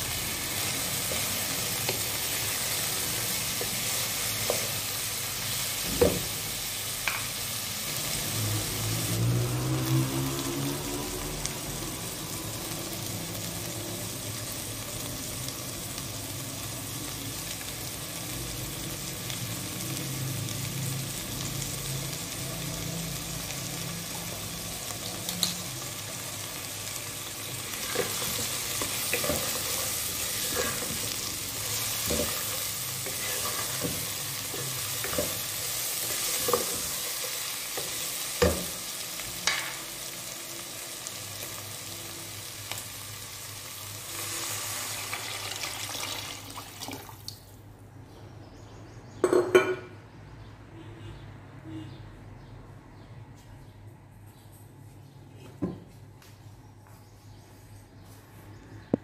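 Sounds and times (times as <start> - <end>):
meat and onions sizzling: 0.0 - 47.5.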